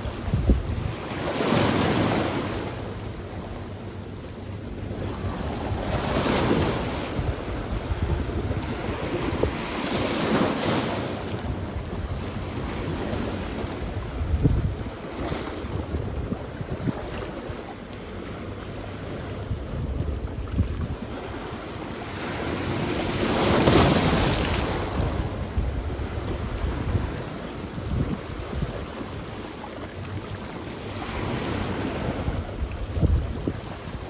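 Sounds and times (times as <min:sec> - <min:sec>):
wind buffeting microphone: 0:00.0 - 0:03.8, 0:04.4 - 0:34.0
sea waves washing onto shore: 0:00.0 - 0:34.0.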